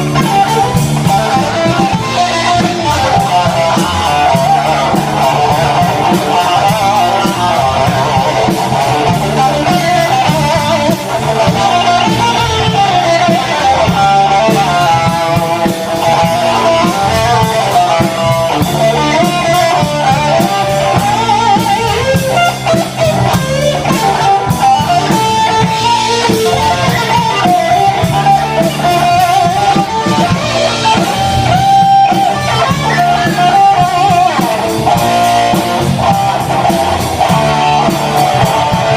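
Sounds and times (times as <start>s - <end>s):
electric guitar: 0.0s - 38.9s
live band playing: 0.0s - 38.9s.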